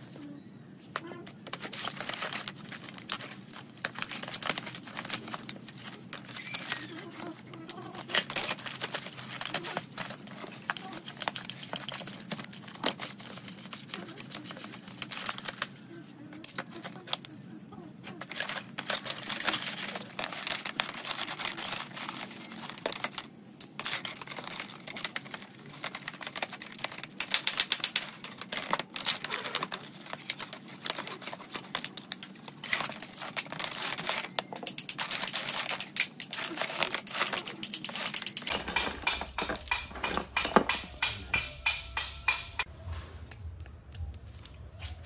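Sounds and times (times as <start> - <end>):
metal bolts clinking and rattling: 0.9 - 17.3, 18.0 - 42.7.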